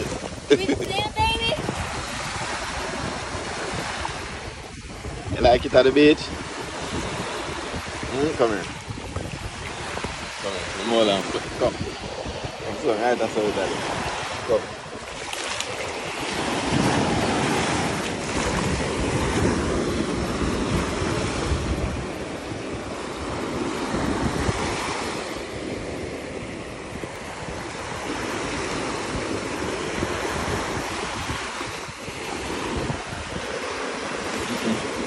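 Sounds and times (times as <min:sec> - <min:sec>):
surf waves washing on sand: 0:00.0 - 0:35.0
wind buffeting microphone: 0:00.0 - 0:35.0.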